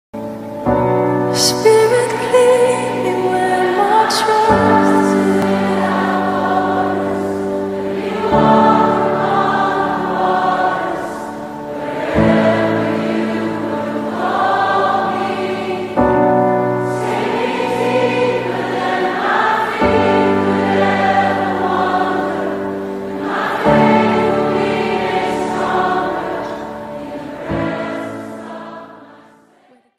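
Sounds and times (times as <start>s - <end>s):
choir singing sustained chords: 0.2s - 29.9s.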